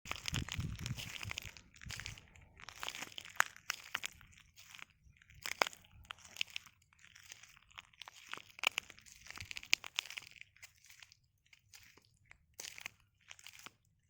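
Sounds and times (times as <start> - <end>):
footsteps crunching on shells: 0.1 - 13.9.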